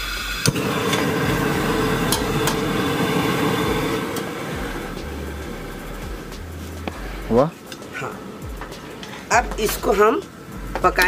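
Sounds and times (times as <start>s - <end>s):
gas burner flame rushing: 0.0s - 9.3s.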